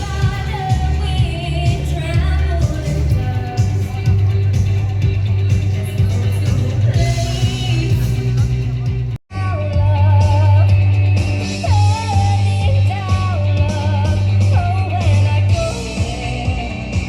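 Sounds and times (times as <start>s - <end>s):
guitar: 0.0s - 17.0s
heavy bass: 0.0s - 17.0s
person singing: 0.0s - 17.0s.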